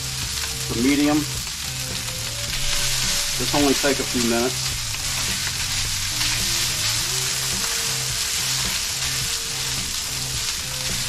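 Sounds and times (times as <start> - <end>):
rice sizzling on a griddle: 0.0 - 11.0.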